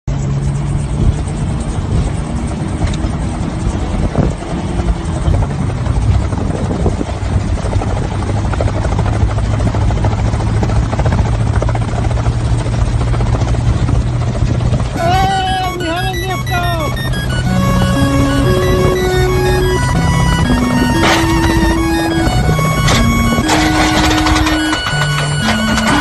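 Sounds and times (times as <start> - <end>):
helicopter engine and rotor drone: 0.1 - 26.0.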